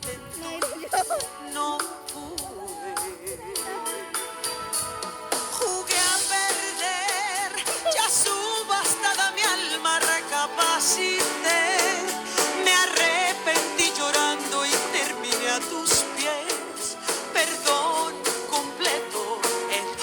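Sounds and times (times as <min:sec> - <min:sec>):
song with vibrato vocals: 0:00.0 - 0:20.0.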